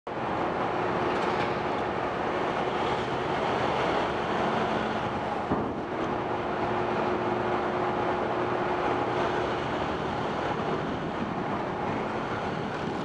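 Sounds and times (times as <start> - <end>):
engine droning: 0.1 - 13.0.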